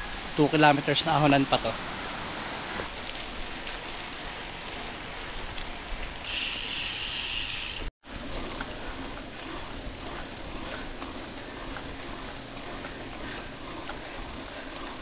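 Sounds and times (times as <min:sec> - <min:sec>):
bike tyre and drivetrain noise: 0:00.0 - 0:15.0.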